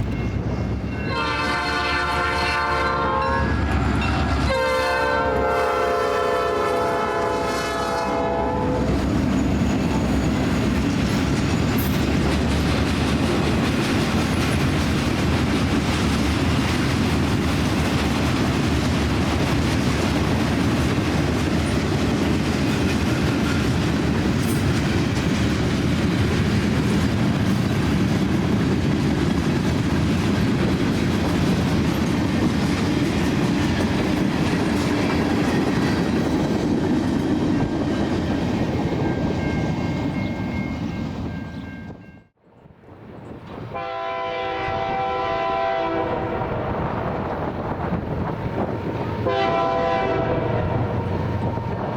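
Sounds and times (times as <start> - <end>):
freight train rumbling past: 0.0 - 51.9.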